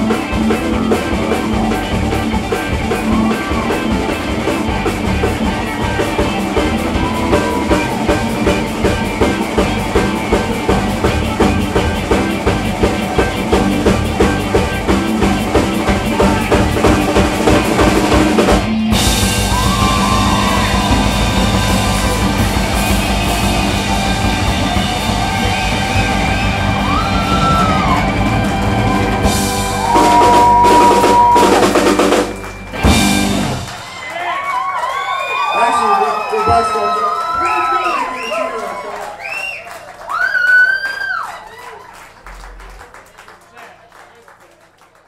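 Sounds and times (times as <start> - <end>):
rock band playing: 0.0 - 39.8.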